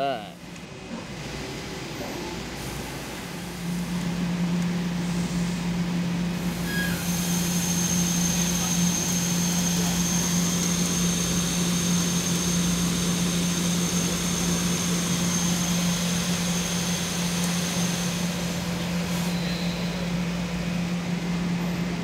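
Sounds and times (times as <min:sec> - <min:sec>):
machine drone with low hum: 0:00.3 - 0:22.0.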